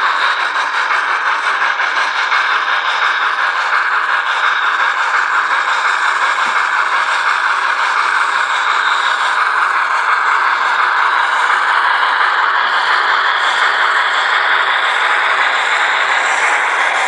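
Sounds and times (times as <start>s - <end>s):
steam engine hissing rush from speaker: 0.0s - 17.0s.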